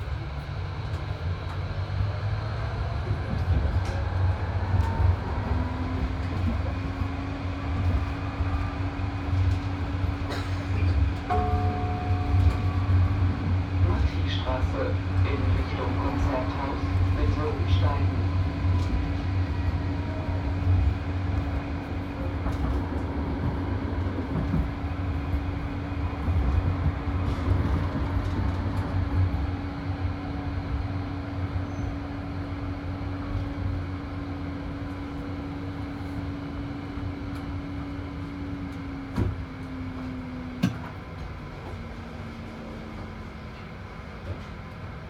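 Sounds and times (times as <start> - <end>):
tram wheels rumbling on rail: 0.0 - 45.0.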